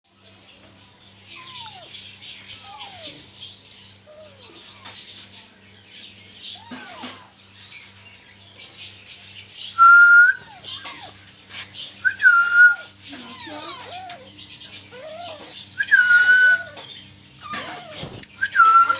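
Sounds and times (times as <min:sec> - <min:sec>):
chatter of many birds: 0:00.1 - 0:18.9
parakeet chicks chirping: 0:00.1 - 0:18.9.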